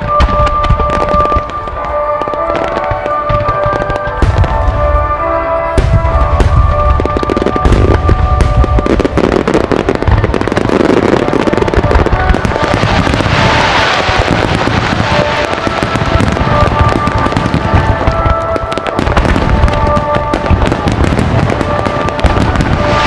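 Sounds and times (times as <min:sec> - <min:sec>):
fireworks bursting and crackling: 0:00.0 - 0:23.0
music over loudspeakers: 0:00.0 - 0:23.0.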